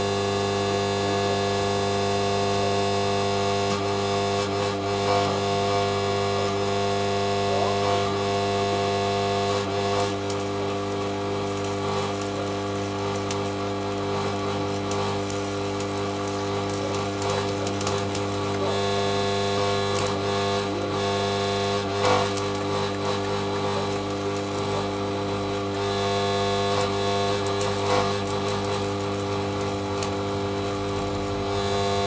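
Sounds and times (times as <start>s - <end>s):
electrical hum: 0.0s - 32.0s
welding arc crackling: 0.0s - 32.0s.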